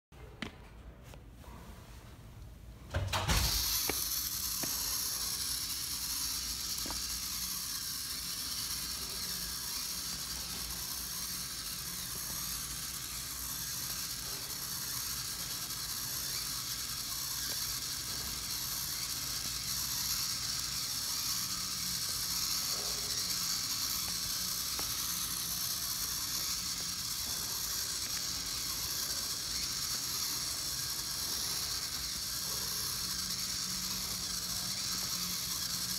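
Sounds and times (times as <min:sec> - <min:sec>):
small electric motors running: 0:03.1 - 0:35.9.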